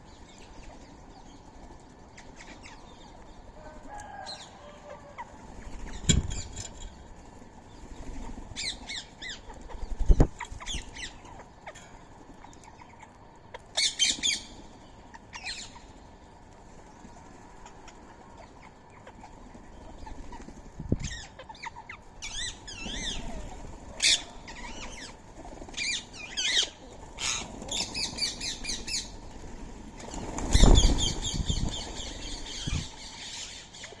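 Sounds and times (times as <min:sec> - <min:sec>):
birds squawking and chirping: 0:00.0 - 0:16.3, 0:17.0 - 0:34.0
wings flapping: 0:05.0 - 0:34.0.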